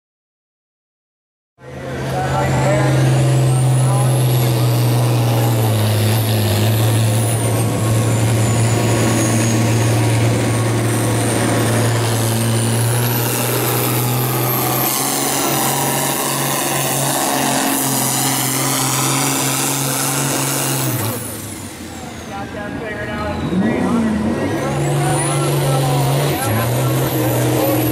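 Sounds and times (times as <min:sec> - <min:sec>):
tractor diesel engine under load: 0:01.6 - 0:27.9.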